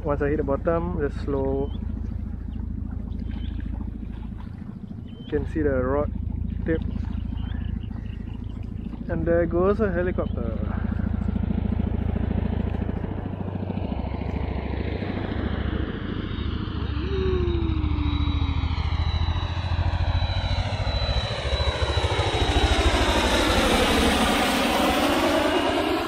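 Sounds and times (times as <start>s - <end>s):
helicopter rotor beating overhead: 0.0s - 26.0s.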